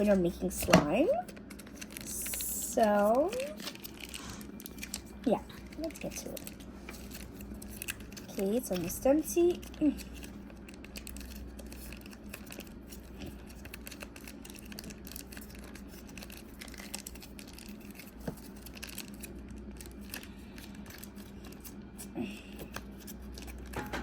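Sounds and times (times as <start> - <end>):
plastic pouch crinkling: 1.0 - 24.0.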